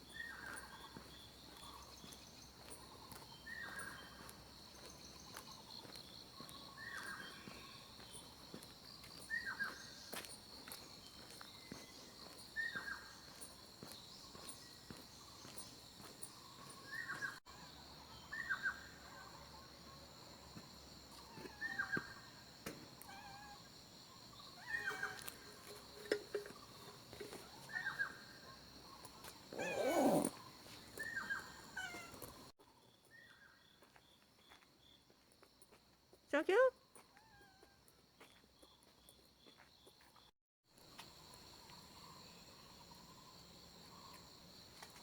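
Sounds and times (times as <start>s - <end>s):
insects droning: 0.0s - 32.5s, 38.1s - 45.0s.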